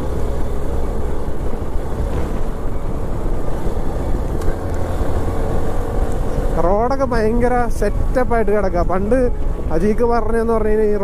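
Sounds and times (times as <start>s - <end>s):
wind noise on microphone: 1.0s - 10.1s.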